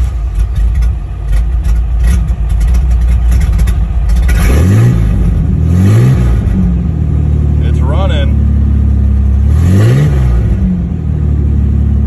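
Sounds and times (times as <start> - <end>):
pickup truck engine running: 0.0 - 9.7
engine revving: 0.0 - 12.0.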